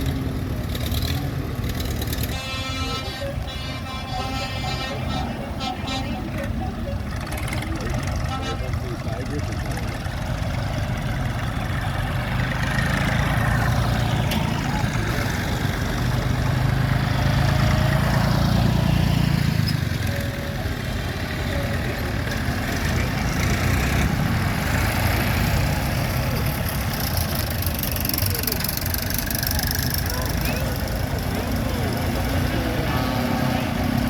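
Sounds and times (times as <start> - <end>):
tractor engines running: 0.0 - 34.0.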